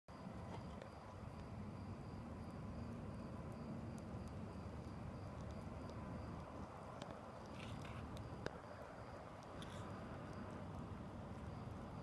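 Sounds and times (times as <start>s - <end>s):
insect chirping: 0.1s - 12.0s.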